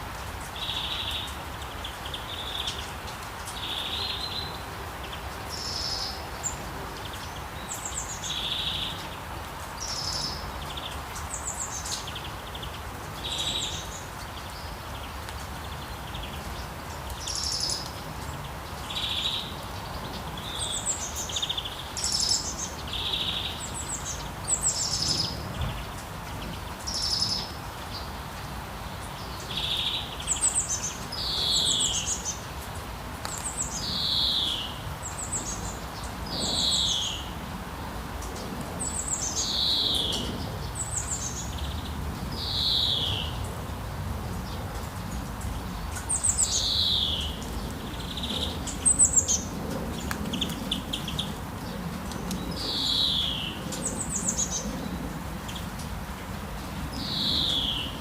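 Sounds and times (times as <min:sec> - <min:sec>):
light rain hiss: 0:00.0 - 0:58.0
songbirds calling: 0:00.0 - 0:58.0.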